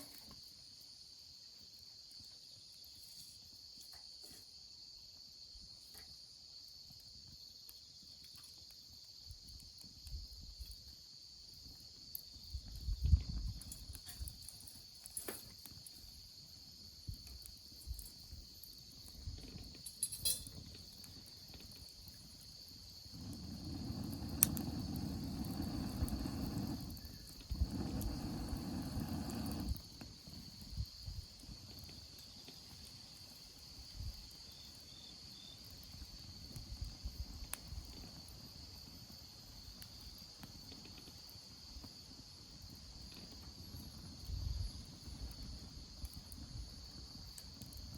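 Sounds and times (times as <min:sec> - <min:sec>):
crickets chirring: 0:00.0 - 0:47.9.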